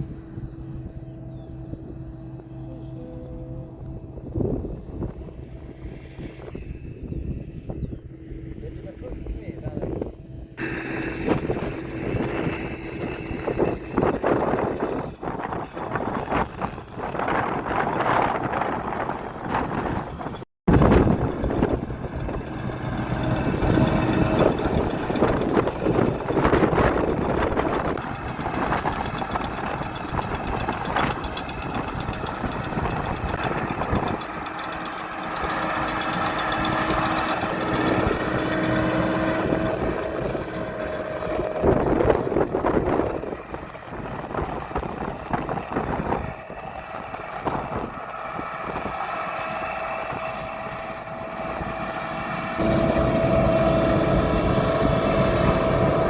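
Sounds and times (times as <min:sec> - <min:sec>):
combine harvester drone: 0:00.0 - 0:56.0
machinery whine: 0:00.0 - 0:56.0.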